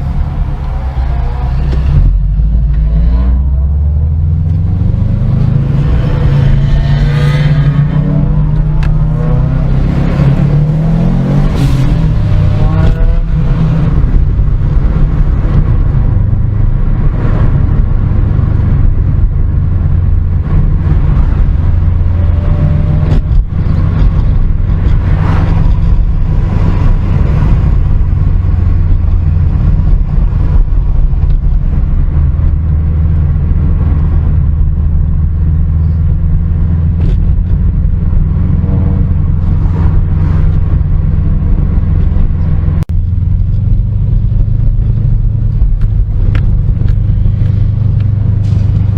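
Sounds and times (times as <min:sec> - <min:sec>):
car engine rumble: 0:00.0 - 0:48.9
road noise: 0:00.0 - 0:48.9.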